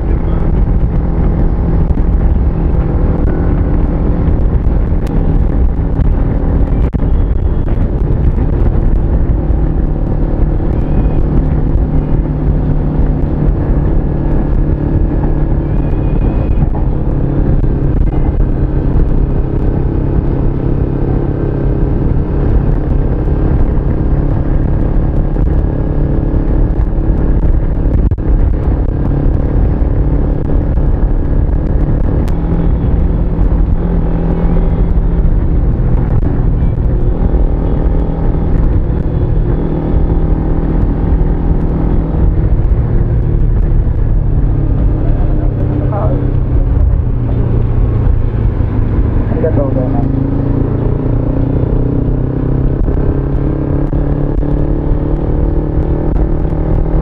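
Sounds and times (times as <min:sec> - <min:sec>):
motorcycle engine cruising: 0:00.0 - 0:57.0
wind rumble on microphone: 0:00.0 - 0:57.0.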